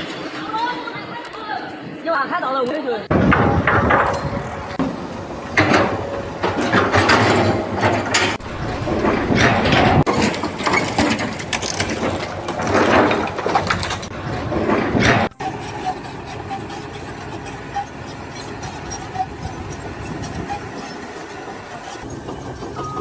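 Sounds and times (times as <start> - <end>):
mechanical clattering and scraping: 3.1 - 22.5.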